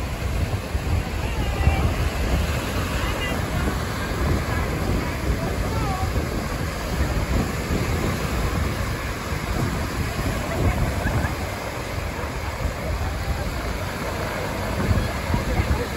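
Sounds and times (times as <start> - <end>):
waves breaking on beach: 0.0 - 15.9
wind rumbling on microphone: 0.0 - 15.9.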